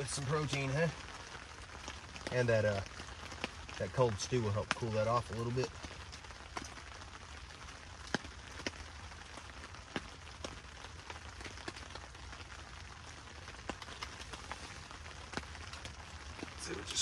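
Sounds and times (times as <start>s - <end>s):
rain hissing on a tent: 0.0s - 17.0s
sharp taps of raindrops: 0.0s - 17.0s.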